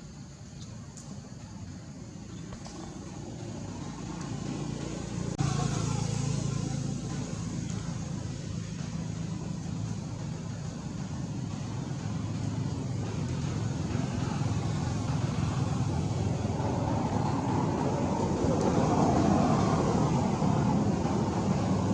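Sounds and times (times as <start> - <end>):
motor vehicle engine humming: 0.0 - 21.9.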